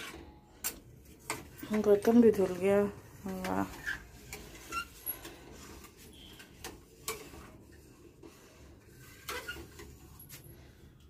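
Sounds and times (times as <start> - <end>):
spatula stirring thick food: 0.0 - 10.9.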